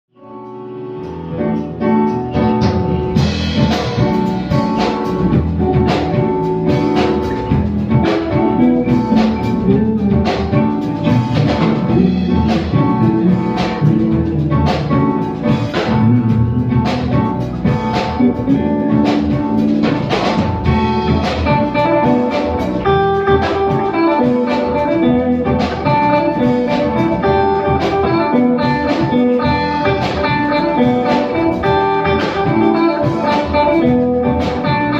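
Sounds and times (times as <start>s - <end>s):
jazz guitar: 0.1s - 34.9s
drum kit beat: 0.5s - 34.9s.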